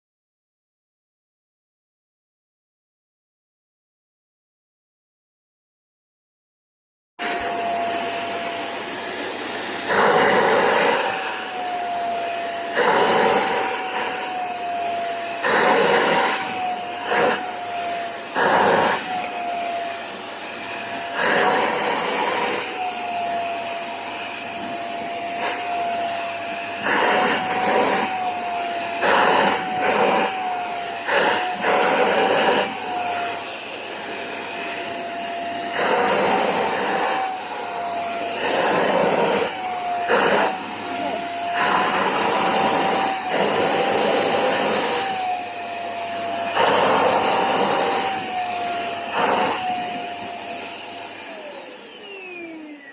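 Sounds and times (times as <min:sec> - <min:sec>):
vacuum cleaner running: 0:07.2 - 0:52.9.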